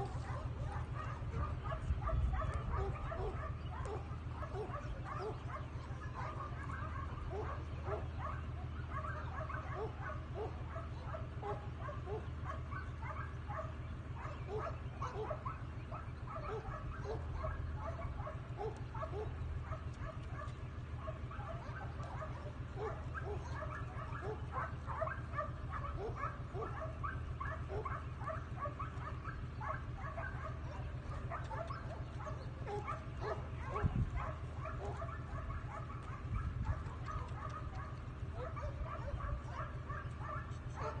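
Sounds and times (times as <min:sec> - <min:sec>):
dogs whining and yipping: 0:00.0 - 0:41.0.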